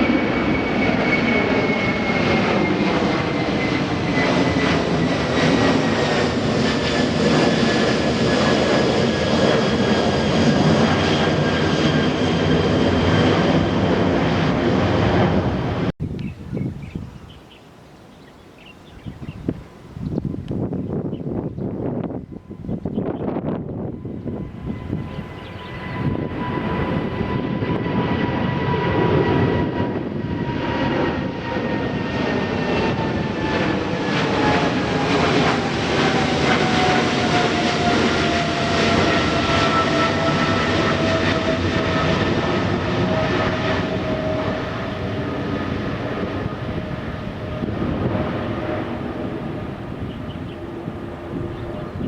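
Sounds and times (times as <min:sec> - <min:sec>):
jet airliner engines roaring: 0:00.0 - 0:52.0.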